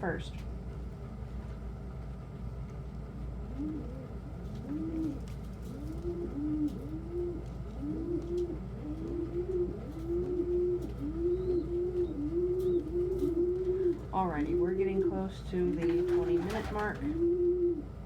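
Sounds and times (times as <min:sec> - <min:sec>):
steady low hum: 0:00.0 - 0:18.0
pigeons cooing: 0:03.4 - 0:18.0.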